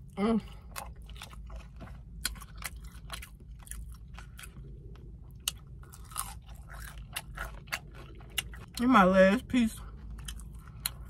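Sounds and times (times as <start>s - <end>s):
person chewing fried chicken: 0.0s - 11.0s.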